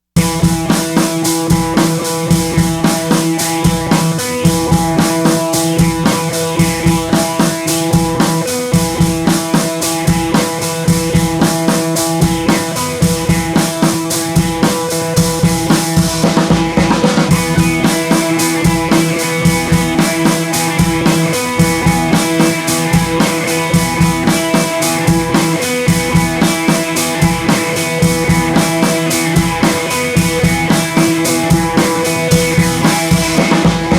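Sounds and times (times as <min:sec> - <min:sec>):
drum kit beat: 0:00.2 - 0:33.9
guitar: 0:00.2 - 0:33.9.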